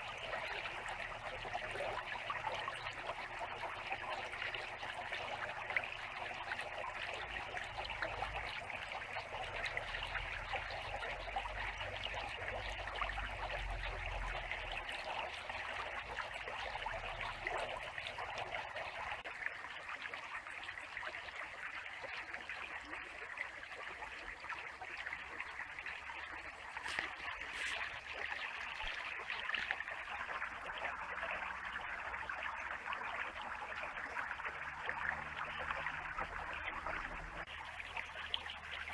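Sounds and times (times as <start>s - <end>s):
creek babbling over stones: 0.0s - 38.9s.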